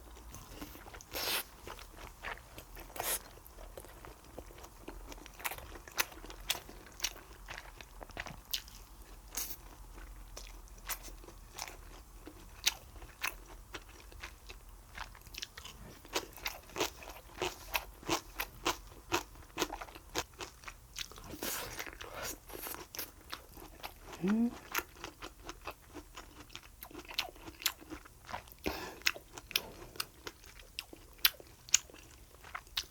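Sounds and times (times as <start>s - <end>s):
person chewing and crunching food: 0.0s - 32.9s.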